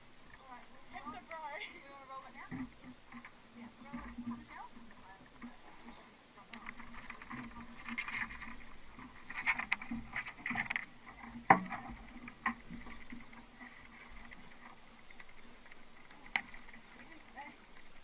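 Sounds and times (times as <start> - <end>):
boat knocks and rattles: 0.3 - 18.0.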